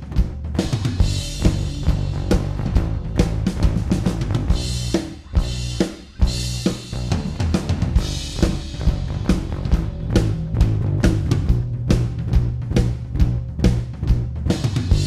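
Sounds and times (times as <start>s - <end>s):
acoustic drum kit: 0.0s - 15.0s
sustained bass line: 0.2s - 15.0s.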